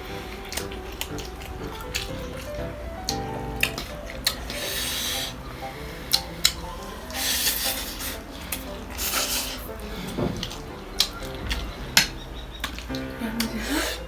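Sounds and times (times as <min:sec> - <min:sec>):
hissy eating noise: 0:00.0 - 0:14.0.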